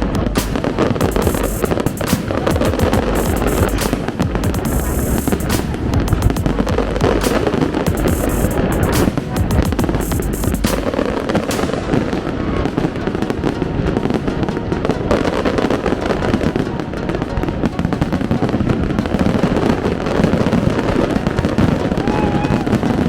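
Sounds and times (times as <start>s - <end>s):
fireworks bursts and crackles: 0.0s - 23.0s.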